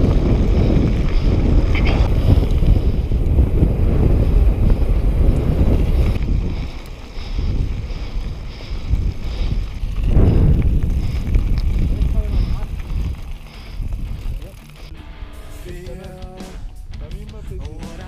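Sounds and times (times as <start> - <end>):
bike tyres rolling on gravel: 0.0 - 15.0
wind buffeting microphone: 0.0 - 15.0.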